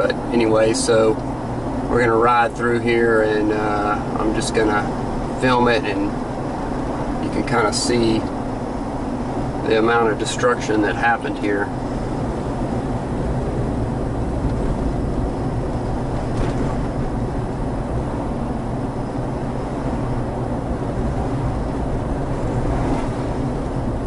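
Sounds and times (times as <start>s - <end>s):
in-car road noise: 0.0s - 24.0s.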